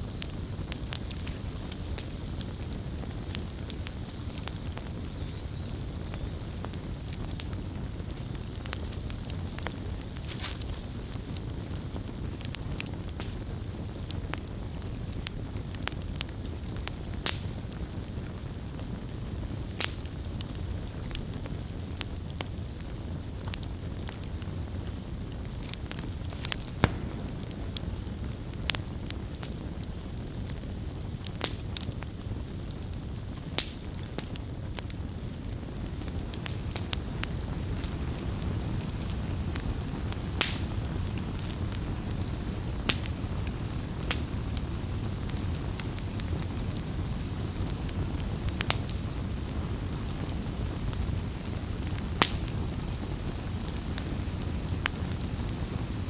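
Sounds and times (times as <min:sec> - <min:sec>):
campfire burning: 0:00.0 - 0:56.0.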